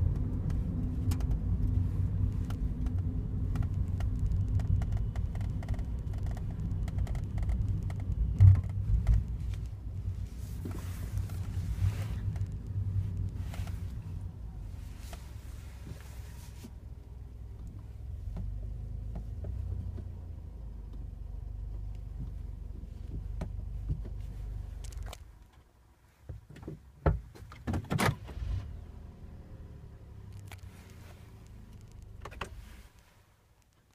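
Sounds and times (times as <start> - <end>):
car engine low hum: 0.0 - 33.9.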